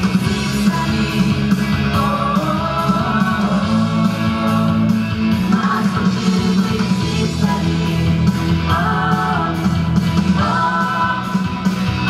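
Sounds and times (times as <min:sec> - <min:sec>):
men and women singing together: 0:00.6 - 0:11.6.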